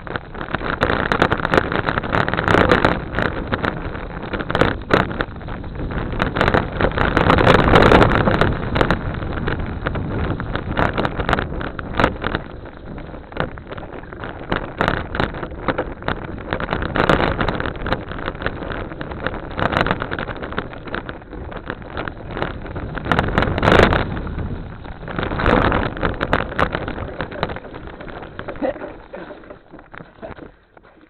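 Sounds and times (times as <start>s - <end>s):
bike rattling over rough ground: 0.0s - 31.0s
wind buffeting microphone: 0.0s - 31.0s.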